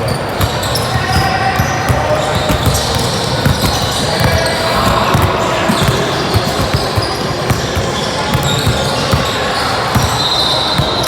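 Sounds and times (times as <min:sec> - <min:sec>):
basketball bouncing on court: 0:00.0 - 0:11.0.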